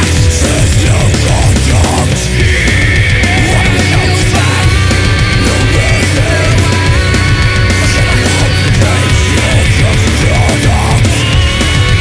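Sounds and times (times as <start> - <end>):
heavy metal band playing: 0.0 - 12.0.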